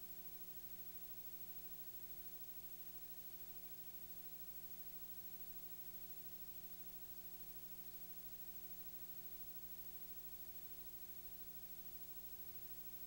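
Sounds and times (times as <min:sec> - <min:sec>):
faint steady hiss: 0:00.0 - 0:13.0
low electrical hum: 0:00.0 - 0:13.0.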